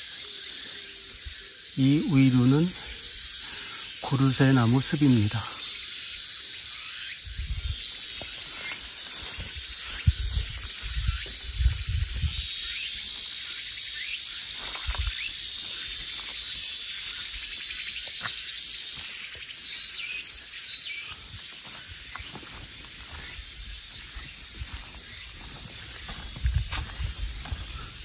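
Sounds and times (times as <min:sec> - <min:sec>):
insects buzzing high-pitched: 0:00.0 - 0:28.0
short insect chirps: 0:00.0 - 0:28.0.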